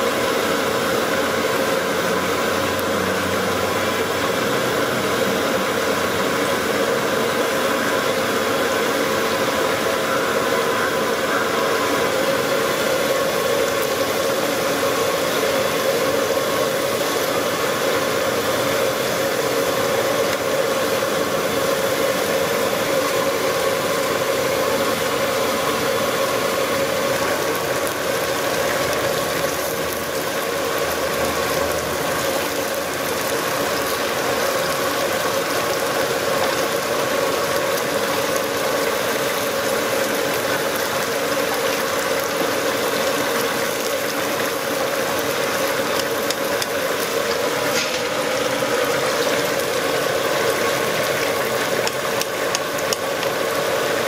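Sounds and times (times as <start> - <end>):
fish deep-frying in hot oil: 0.0 - 54.0
steady hum: 0.0 - 54.0.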